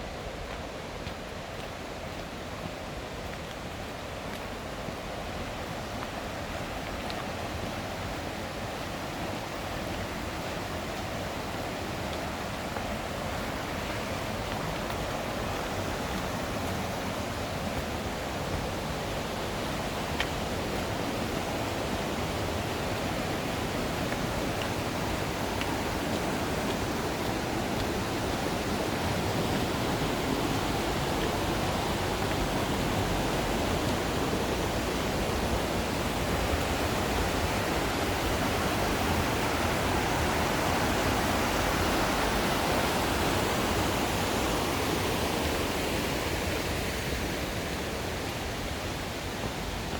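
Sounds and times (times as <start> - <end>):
stream and waterfall rushing: 0.0 - 49.9.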